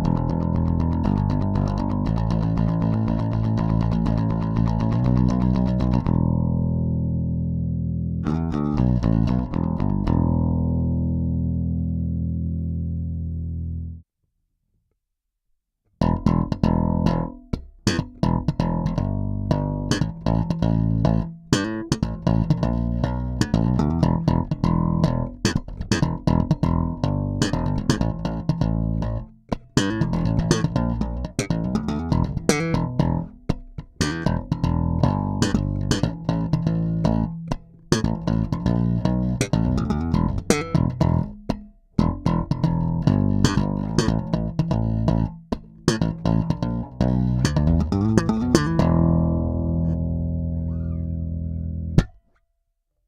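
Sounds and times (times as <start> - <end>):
electric bass plucked notes: 0.0 - 14.0, 16.0 - 52.2.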